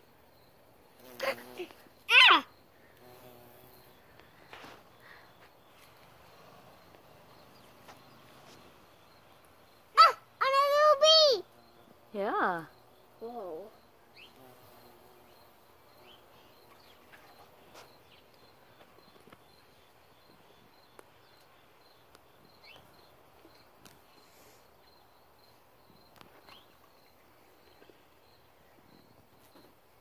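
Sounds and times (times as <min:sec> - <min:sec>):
faint insect chirping: 0:00.0 - 0:30.0.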